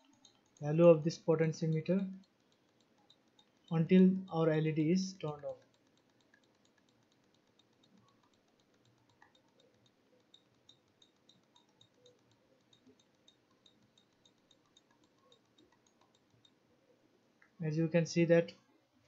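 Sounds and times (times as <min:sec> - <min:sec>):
faint mouse clicks: 0:00.0 - 0:04.5, 0:05.1 - 0:17.6.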